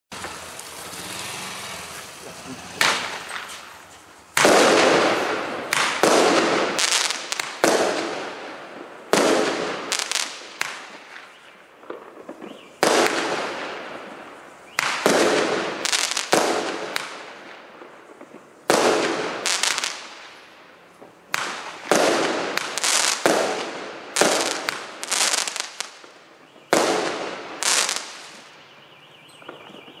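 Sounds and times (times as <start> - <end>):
fireworks bangs: 0.1 - 28.6, 29.2 - 30.0
fireworks crackling: 0.1 - 28.7.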